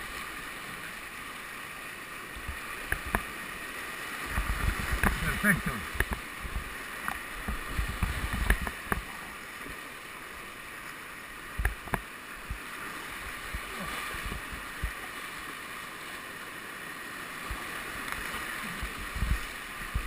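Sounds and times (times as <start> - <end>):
paddle strokes splashing: 0.0 - 20.0
whitewater rushing and splashing: 0.0 - 20.0.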